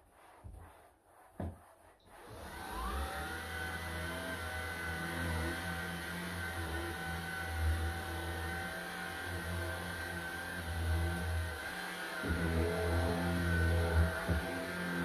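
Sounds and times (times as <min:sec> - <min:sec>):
stick vacuum cleaner running: 0:02.1 - 0:15.0.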